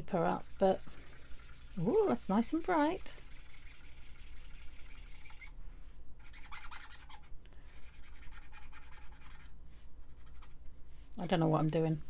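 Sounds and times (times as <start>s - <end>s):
brush pen scratching on paper: 0.0s - 5.5s, 6.2s - 10.6s, 11.2s - 11.8s.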